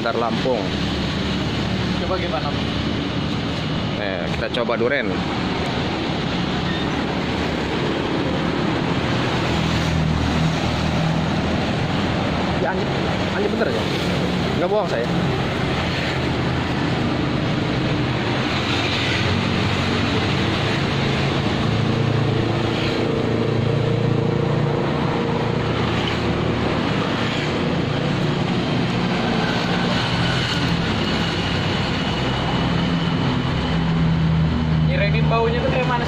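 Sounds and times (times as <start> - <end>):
street traffic noise: 0.0 - 36.0
vehicle engines humming: 0.0 - 36.0.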